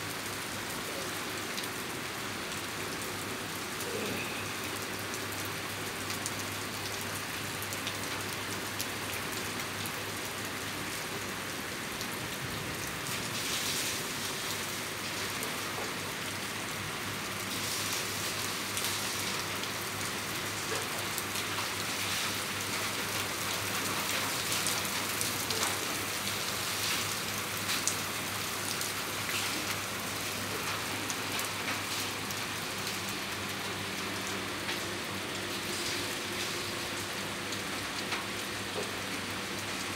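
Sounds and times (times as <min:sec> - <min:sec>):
heavy rain splashing on water: 0:00.0 - 0:39.9.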